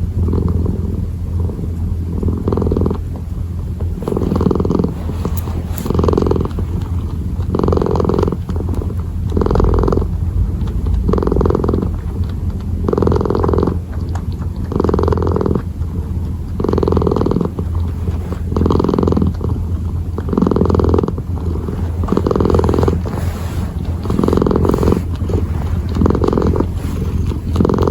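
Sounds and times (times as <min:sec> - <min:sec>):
kitten purring: 0:00.0 - 0:27.9.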